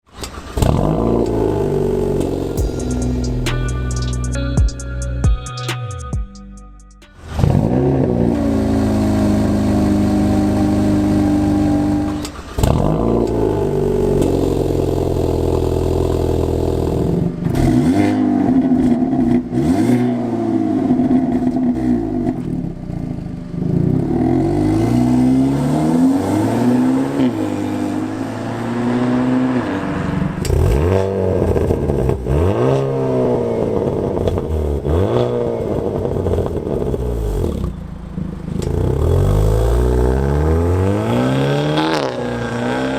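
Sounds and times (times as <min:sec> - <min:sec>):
car engine revving: 0:00.1 - 0:04.8, 0:07.1 - 0:42.9.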